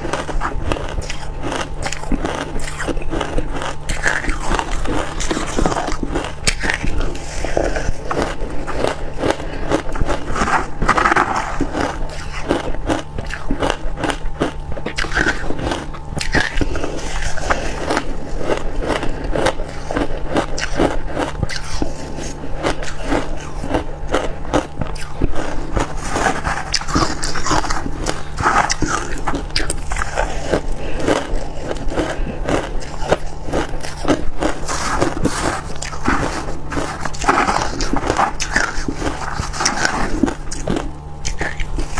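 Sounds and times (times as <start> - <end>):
frost being chewed crunching: 0.0 - 41.9
steady low hum: 0.0 - 41.9.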